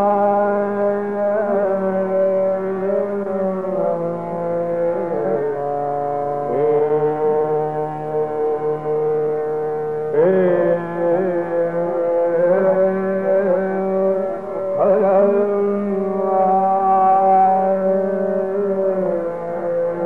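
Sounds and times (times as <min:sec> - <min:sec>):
tanpura drone: 0:00.0 - 0:20.0.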